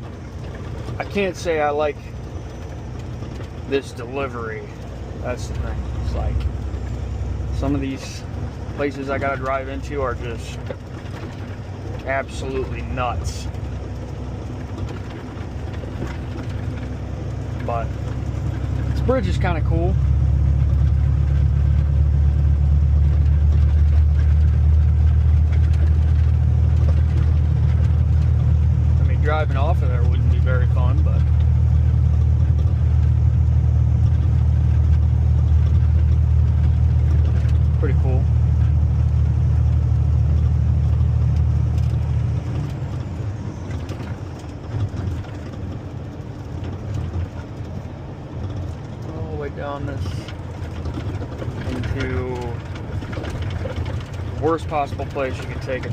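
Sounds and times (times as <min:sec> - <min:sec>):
diesel truck engine drone: 0:00.0 - 0:55.9
faint road noise whir: 0:00.0 - 0:55.9.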